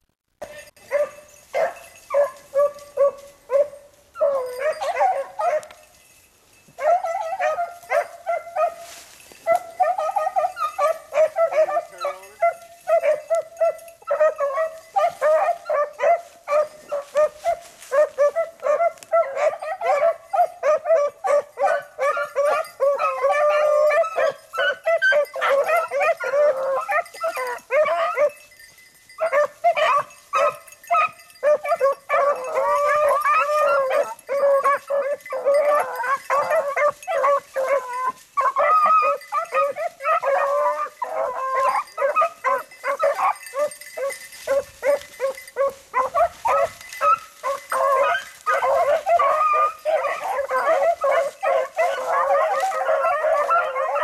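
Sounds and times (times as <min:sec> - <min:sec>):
hounds baying: 0:00.4 - 0:54.0.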